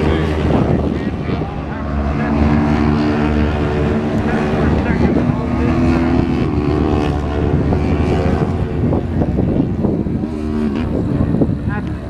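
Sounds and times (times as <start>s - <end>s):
low rumble: 0.0s - 12.0s
motorcycle engines at high revs: 0.0s - 12.0s.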